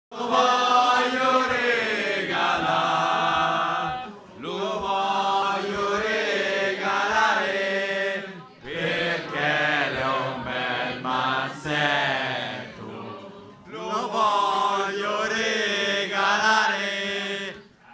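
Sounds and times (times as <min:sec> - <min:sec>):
group of voices singing: 0:00.1 - 0:17.9.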